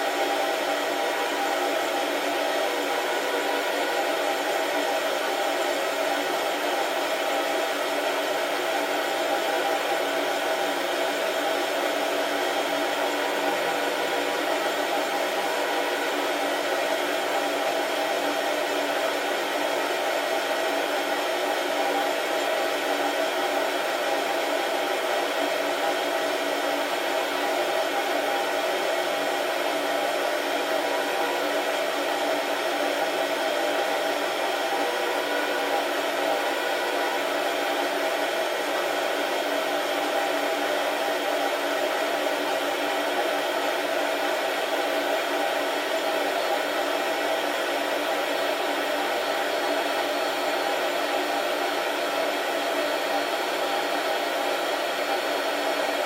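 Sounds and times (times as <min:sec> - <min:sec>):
coffee roaster whirring: 0:00.0 - 0:56.0.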